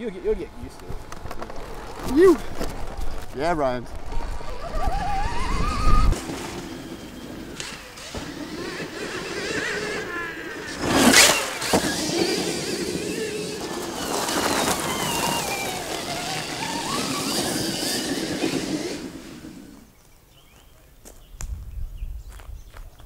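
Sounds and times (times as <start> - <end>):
tyres scrabbling in loose dirt: 0.0 - 21.3
electric motor whine: 0.2 - 19.9.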